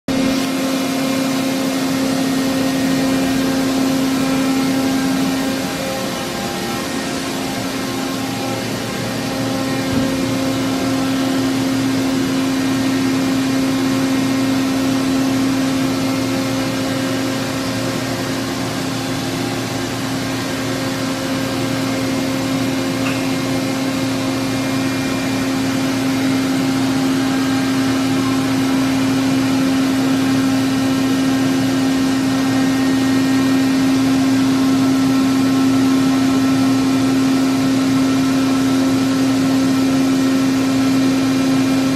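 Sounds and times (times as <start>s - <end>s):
machine hum with steady tone: 0.1s - 41.9s
noisy whir: 0.1s - 41.9s.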